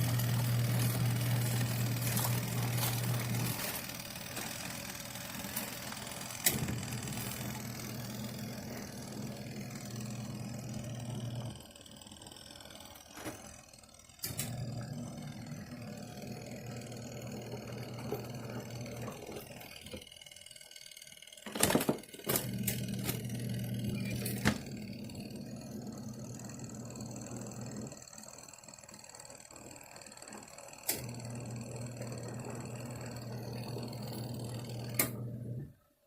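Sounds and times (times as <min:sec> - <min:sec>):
washing machine motor humming: 0:00.0 - 0:35.9.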